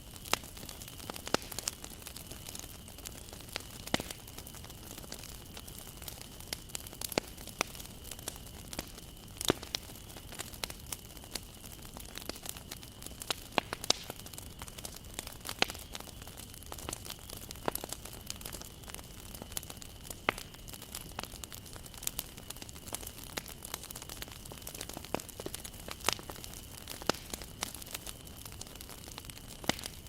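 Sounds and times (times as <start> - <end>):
bonfire crackling: 0.0 - 30.0
burning wood popping: 0.0 - 30.0
soft fire hiss: 0.0 - 30.0.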